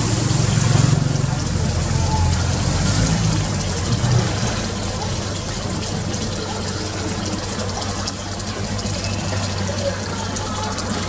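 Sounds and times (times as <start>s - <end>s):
motor hum: 0.0s - 11.0s
running water rushing: 0.0s - 11.0s.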